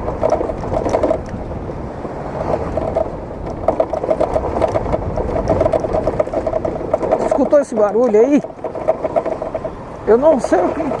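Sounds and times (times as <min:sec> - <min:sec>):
rapid rattling of loose part: 0:00.0 - 0:01.4, 0:02.4 - 0:11.0
road noise: 0:00.0 - 0:11.0
scooter engine: 0:00.0 - 0:11.0.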